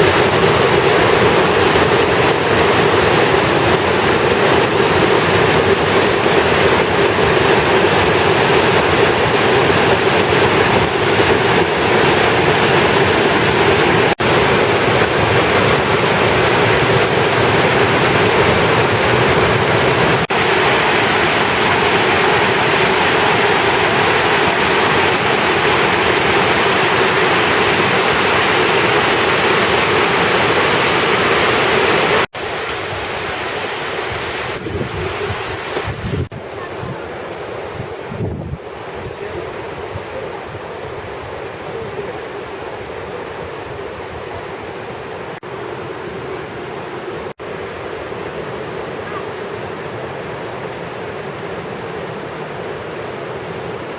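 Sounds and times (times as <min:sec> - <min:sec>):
quieter water sound: 0:00.0 - 0:53.9
waterfall rushing: 0:00.0 - 0:53.9.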